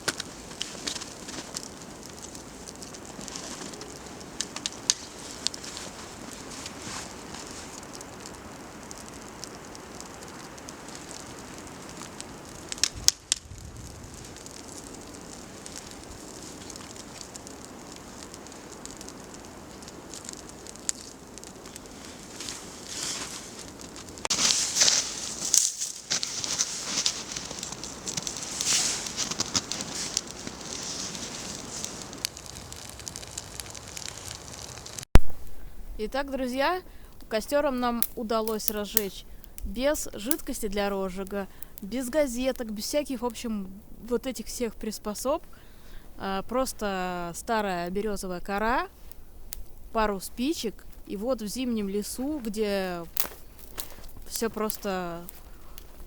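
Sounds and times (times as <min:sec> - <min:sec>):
campfire crackling: 0:00.0 - 0:56.0
sharp fire pops: 0:00.0 - 0:56.0.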